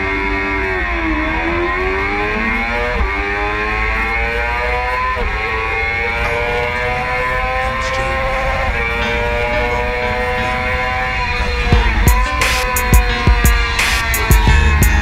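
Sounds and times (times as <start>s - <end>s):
low wind rush: 0.0s - 15.0s
motorcycle engine accelerating hard: 0.0s - 15.0s.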